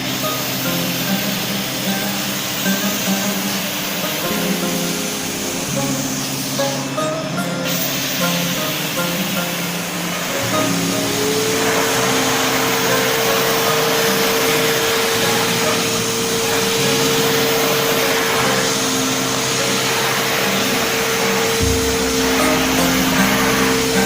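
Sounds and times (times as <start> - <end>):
rush of suction air: 0.0 - 24.0
vacuum motor whine: 0.0 - 24.0.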